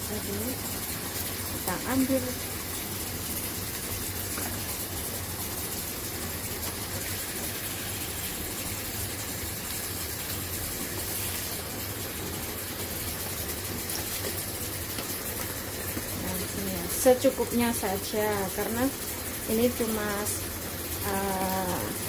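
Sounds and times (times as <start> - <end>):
tap water running into sink: 0.4 - 22.0.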